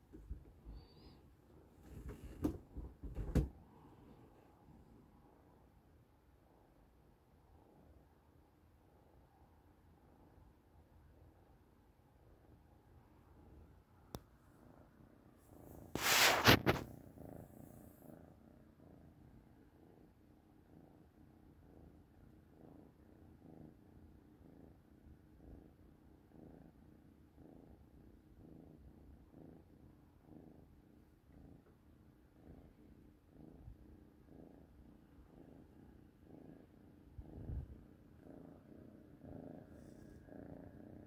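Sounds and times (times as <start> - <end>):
kitten purring: 0.0 - 41.0.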